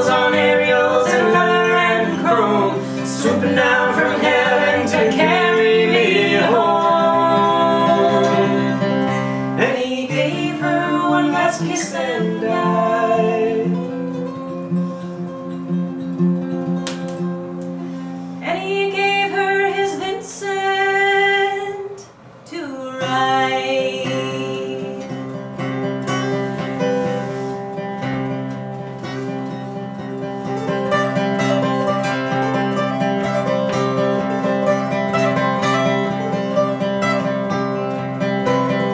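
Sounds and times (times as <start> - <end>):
acoustic guitar folk ballad: 0.0 - 38.9.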